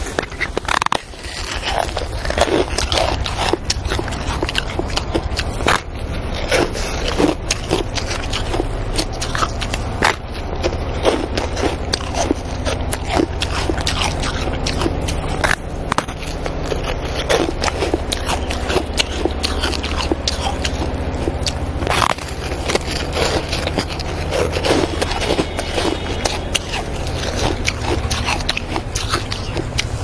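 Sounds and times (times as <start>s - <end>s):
ice being crunched: 0.0s - 30.0s
low rumble: 0.0s - 30.0s.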